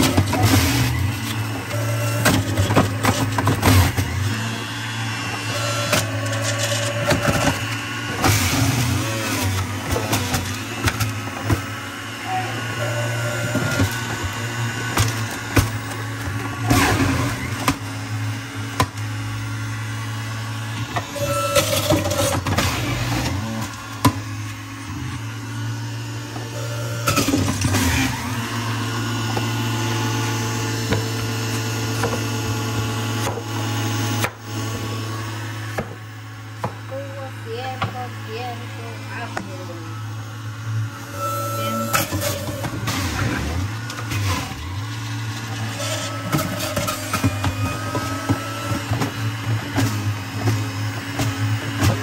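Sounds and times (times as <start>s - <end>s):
juicer motor shredding apples: 0.0s - 52.0s.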